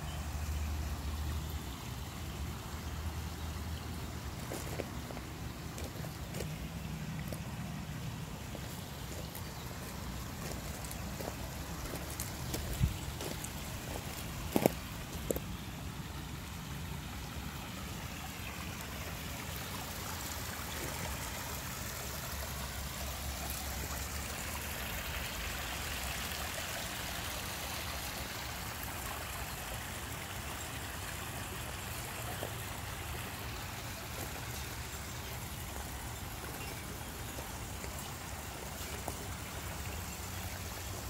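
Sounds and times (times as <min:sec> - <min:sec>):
water trickling over stones: 0:00.0 - 0:41.0.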